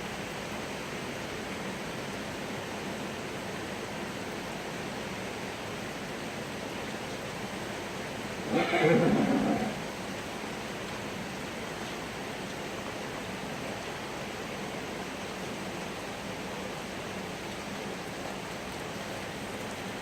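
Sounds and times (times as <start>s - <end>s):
falling rain hiss: 0.0s - 20.0s.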